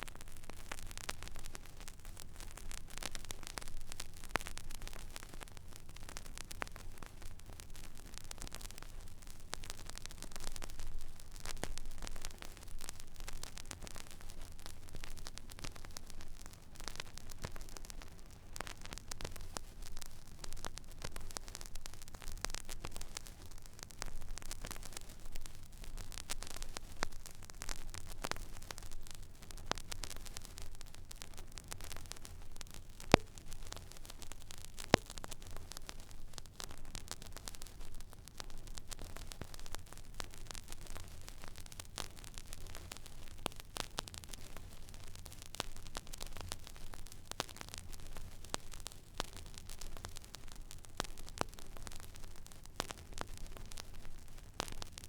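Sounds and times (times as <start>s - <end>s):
vinyl crackles and pops: 0.0s - 55.0s
vinyl surface hiss: 0.0s - 55.0s.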